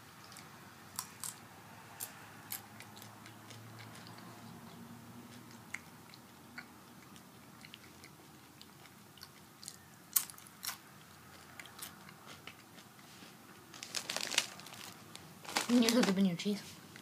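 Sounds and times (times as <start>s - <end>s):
person chewing crunchy chips: 0.2s - 16.1s.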